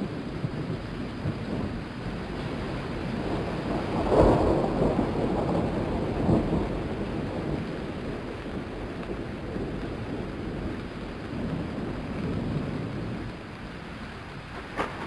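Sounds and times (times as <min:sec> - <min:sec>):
rumbling thunder: 0:00.0 - 0:15.0
steady rain: 0:00.0 - 0:15.0.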